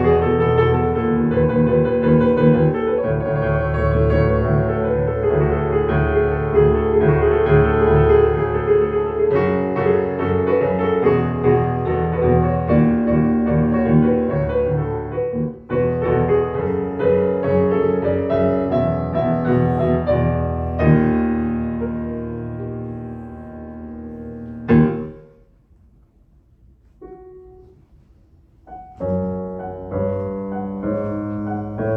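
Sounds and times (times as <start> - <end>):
solo piano chords: 0.0 - 31.9.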